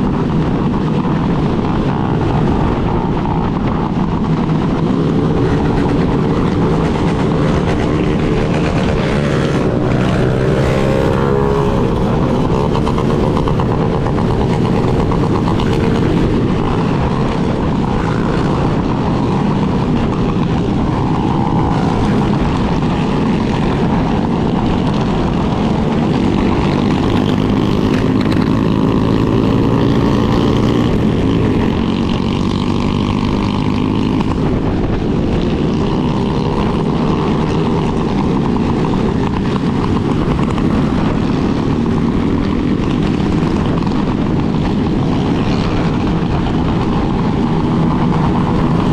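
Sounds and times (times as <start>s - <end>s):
motorcycle engine running: 0.0s - 48.9s
steady low rumble: 0.0s - 48.9s.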